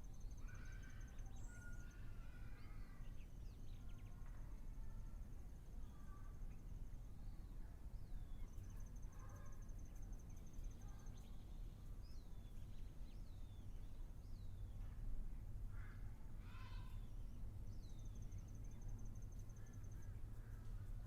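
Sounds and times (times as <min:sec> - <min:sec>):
low background noise: 0:00.0 - 0:21.0
low full bird calls: 0:00.0 - 0:21.0.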